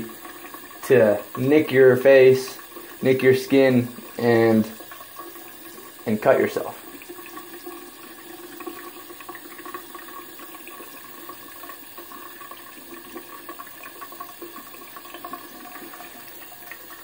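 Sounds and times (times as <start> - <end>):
sink tap running: 0.0 - 17.0.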